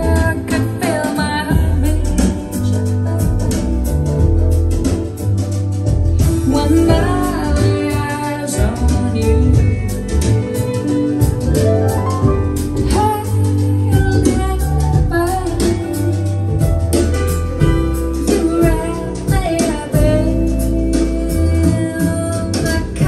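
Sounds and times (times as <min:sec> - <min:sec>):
song with singing guitar and drums: 0:00.0 - 0:23.0.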